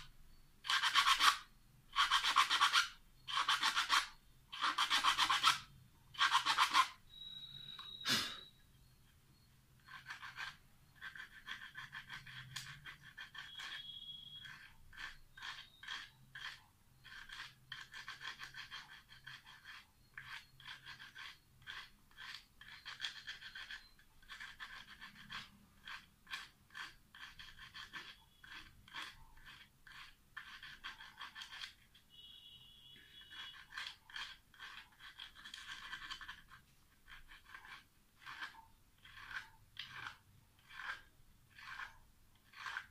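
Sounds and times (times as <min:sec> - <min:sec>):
hand tool scraping metal: 0:00.6 - 0:08.5, 0:09.3 - 0:32.3, 0:33.0 - 0:42.9.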